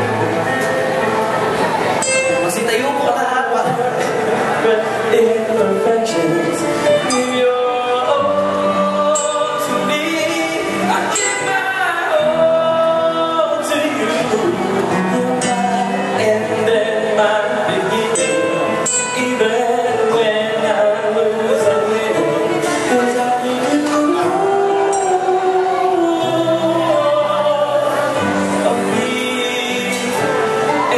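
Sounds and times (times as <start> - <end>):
man singing into a microphone: 2.2 - 30.9.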